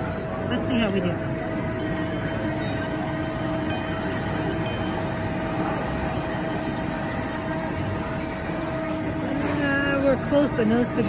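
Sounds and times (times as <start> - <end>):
constant mid-pitched tone: 0.0 - 11.0.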